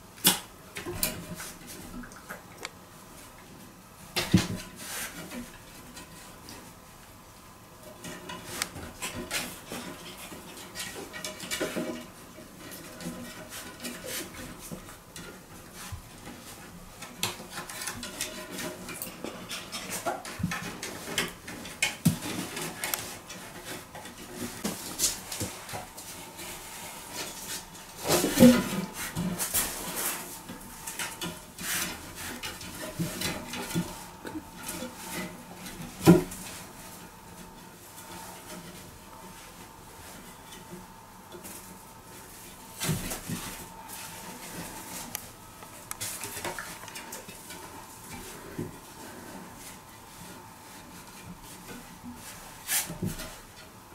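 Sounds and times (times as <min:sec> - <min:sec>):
animal scuffle: 0:08.0 - 0:53.8.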